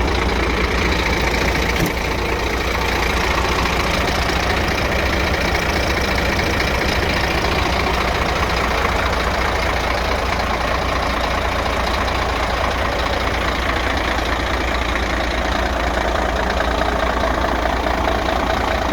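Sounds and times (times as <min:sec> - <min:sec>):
truck diesel engine running: 0:00.0 - 0:18.9.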